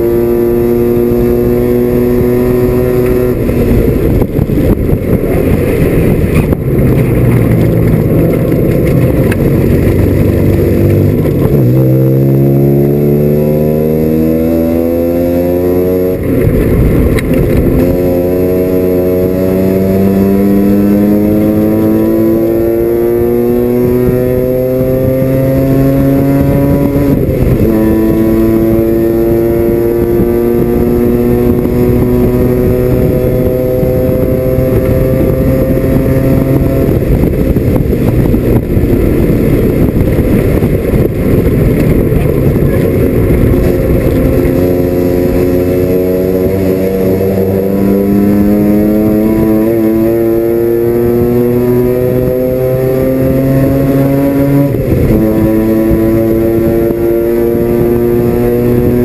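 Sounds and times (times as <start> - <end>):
rotary engine at full throttle: 0.0 - 59.0.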